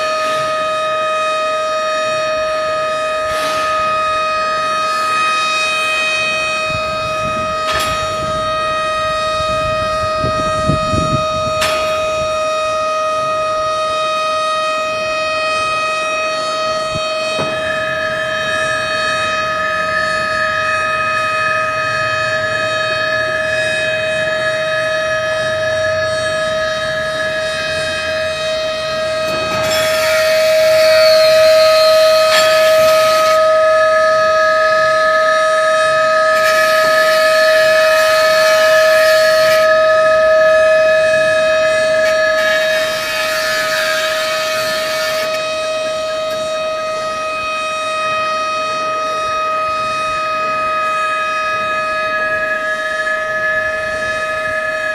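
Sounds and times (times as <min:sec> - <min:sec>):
loud pitched drone: 0:00.0 - 0:54.9.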